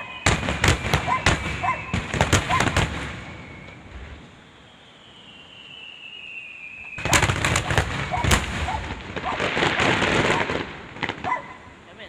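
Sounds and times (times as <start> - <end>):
firework whistle falling in pitch: 0.0 - 10.6
firework bangs and crackling: 0.0 - 12.0.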